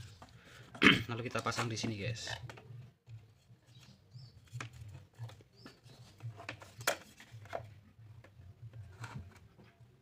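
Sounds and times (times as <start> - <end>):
plastic parts clicking and tapping: 0.1 - 9.7.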